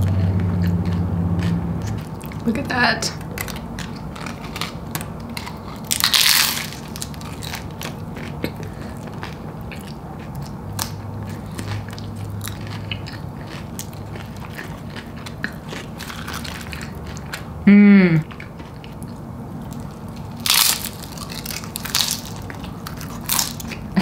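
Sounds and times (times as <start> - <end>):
chewing crunchy chips: 0.0 - 17.6, 18.2 - 24.0.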